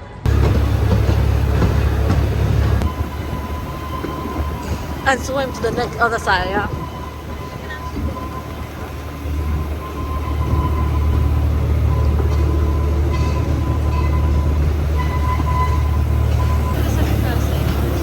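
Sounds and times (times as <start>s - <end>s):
amusement ride mechanical rumble: 0.0s - 18.0s.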